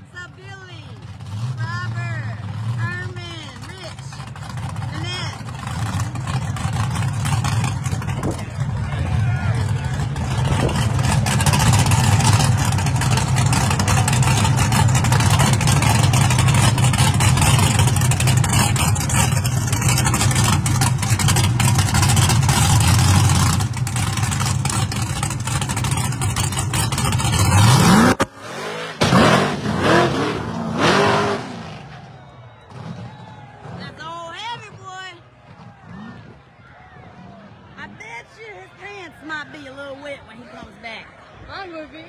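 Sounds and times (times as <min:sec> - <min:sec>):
car engine rumbling: 0:00.0 - 0:42.0.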